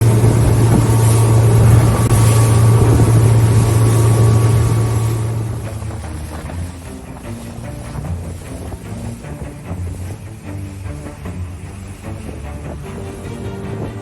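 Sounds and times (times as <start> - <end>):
motorboat engine humming: 0.0 - 14.0
water rushing: 0.0 - 14.0
wind noise: 0.0 - 14.0.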